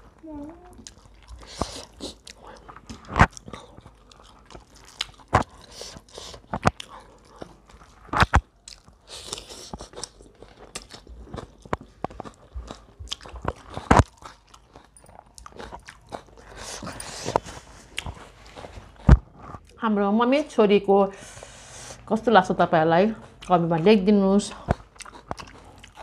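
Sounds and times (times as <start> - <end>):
people chewing and biting: 0.0 - 19.8, 23.1 - 23.9, 24.5 - 26.0.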